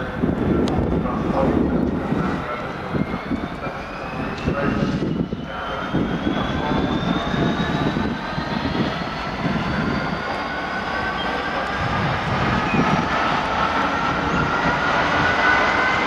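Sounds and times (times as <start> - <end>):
diesel locomotive engine rumbling: 0.0 - 16.0
rising engine whine: 0.0 - 16.0.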